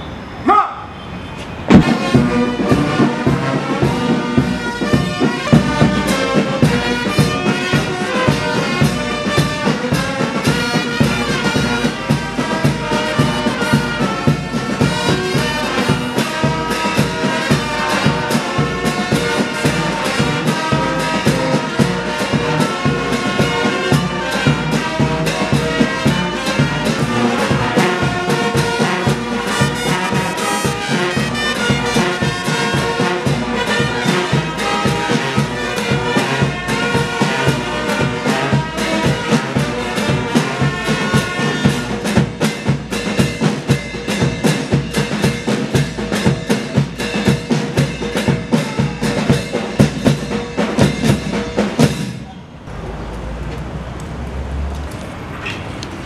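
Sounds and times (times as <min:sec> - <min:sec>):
brass band playing a march: 0:01.5 - 0:52.3.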